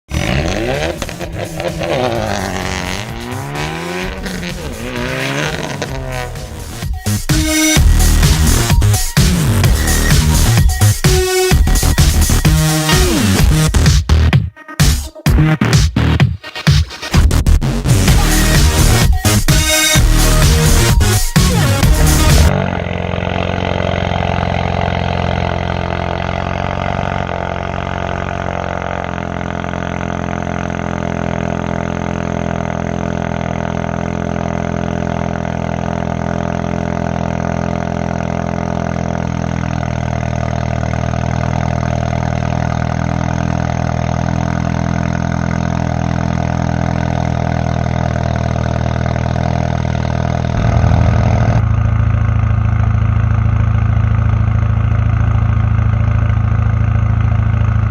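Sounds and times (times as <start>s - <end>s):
car engine idling: 0.1s - 12.4s, 18.1s - 57.9s.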